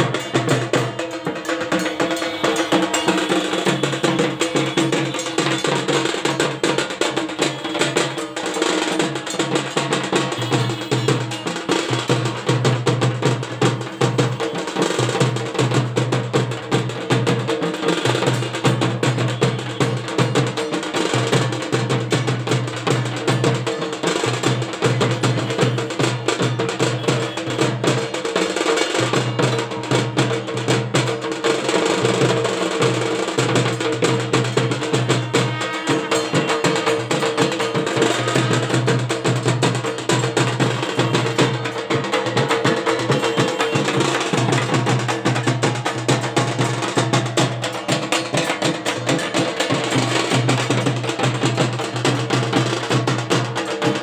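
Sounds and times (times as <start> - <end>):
barrel drums beaten with sticks: 0.0 - 54.0.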